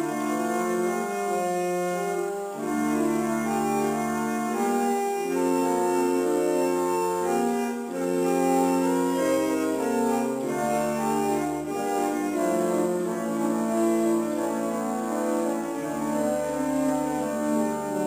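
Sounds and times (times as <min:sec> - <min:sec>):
pipe organ playing: 0:00.0 - 0:18.0.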